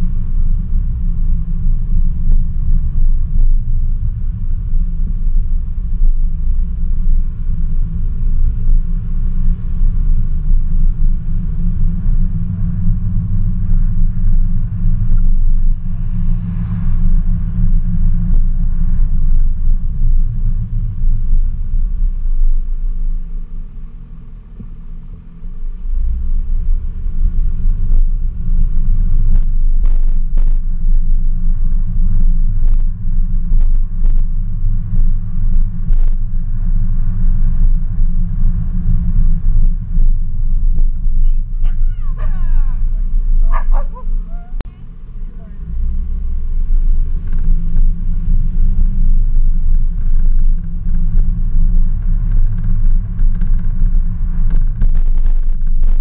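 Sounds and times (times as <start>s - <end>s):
car engine and wind rumble: 0.0s - 56.0s.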